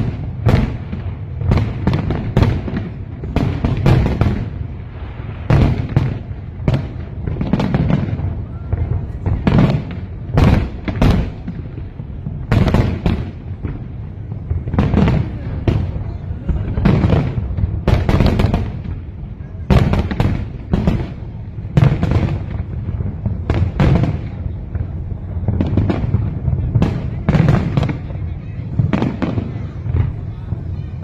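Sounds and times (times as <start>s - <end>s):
continuous low rumble: 0.0s - 31.0s
fireworks bursting: 0.0s - 31.0s.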